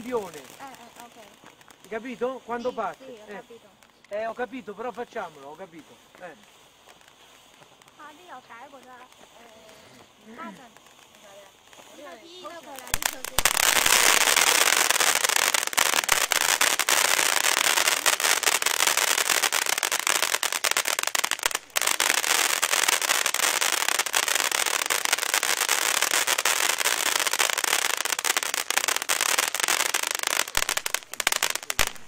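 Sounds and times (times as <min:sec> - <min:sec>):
crackling pops: 0:00.0 - 0:32.0
firework fountain hissing: 0:00.0 - 0:32.0.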